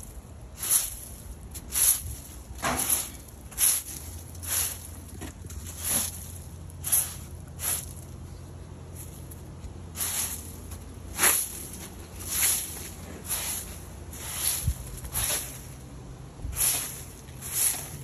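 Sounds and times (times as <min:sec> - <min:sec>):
broom sweeping wet pavement: 0:00.0 - 0:18.0.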